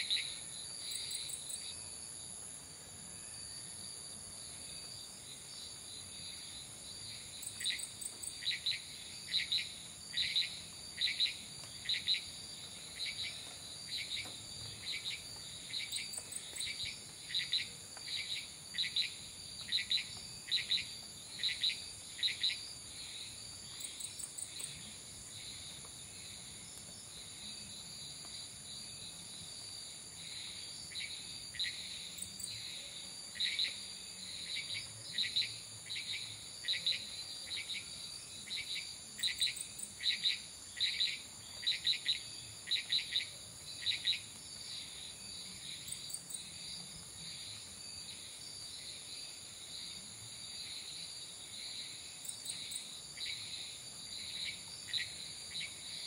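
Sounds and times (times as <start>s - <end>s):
crickets and cicadas trilling: 0.0s - 56.0s.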